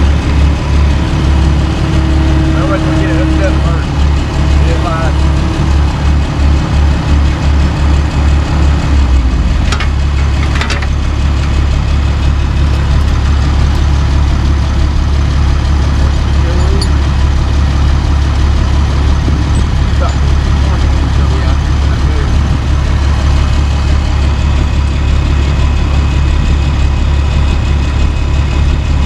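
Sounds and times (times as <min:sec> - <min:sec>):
heavy engine idling: 0:00.0 - 0:29.0.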